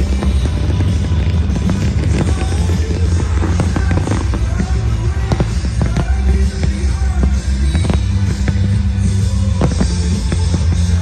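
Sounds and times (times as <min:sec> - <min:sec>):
fireworks bursting and crackling: 0:00.0 - 0:11.0
loud music with bass line: 0:00.0 - 0:11.0.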